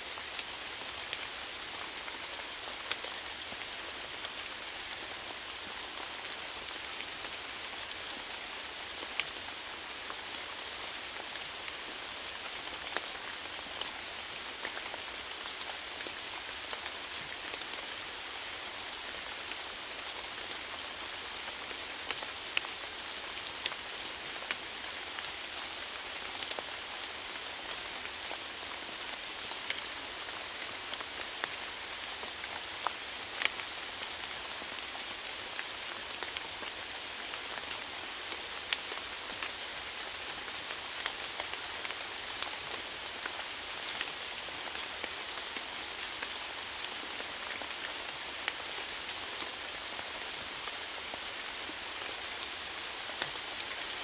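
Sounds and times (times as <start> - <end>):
rainfall hiss: 0.0 - 54.0
raindrops ticking on a surface: 0.1 - 54.0.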